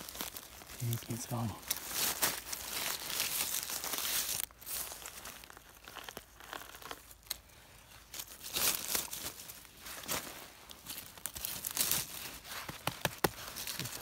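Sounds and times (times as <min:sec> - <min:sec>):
dry leaves crackling and rustling: 0:00.0 - 0:14.0.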